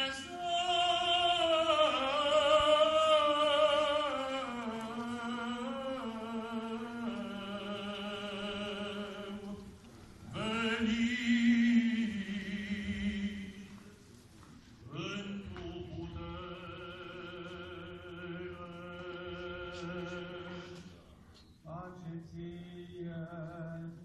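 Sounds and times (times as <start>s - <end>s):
liturgical chanting: 0.0s - 24.0s.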